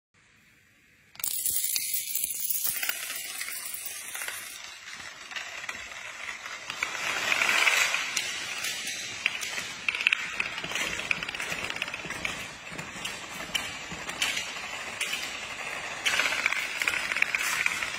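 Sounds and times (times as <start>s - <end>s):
domino pieces clattering down: 1.2s - 17.9s.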